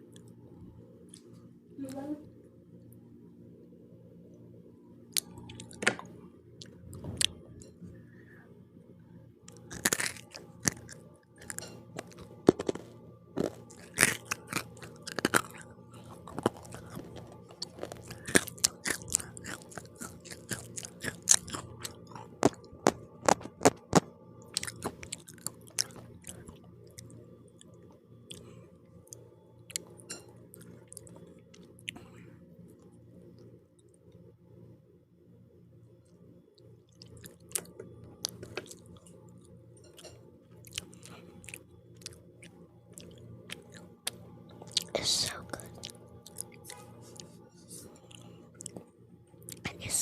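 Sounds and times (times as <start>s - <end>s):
chewing crunchy pizza crust: 5.1s - 7.9s, 9.4s - 34.3s, 36.0s - 50.0s.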